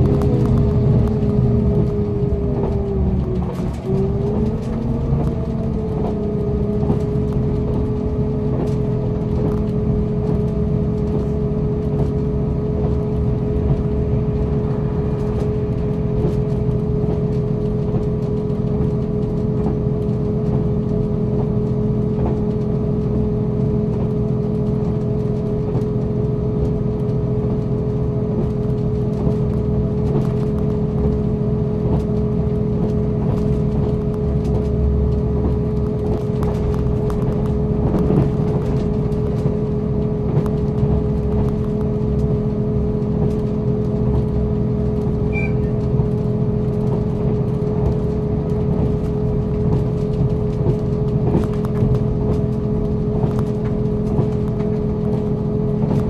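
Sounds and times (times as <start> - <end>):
train engine drone with whine: 0.0 - 56.0
wheels rumbling on rails: 0.0 - 56.0.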